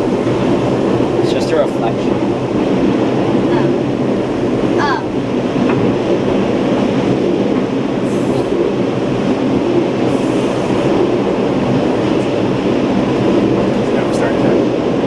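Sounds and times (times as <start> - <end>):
tram car rumbling hum: 0.0 - 15.0.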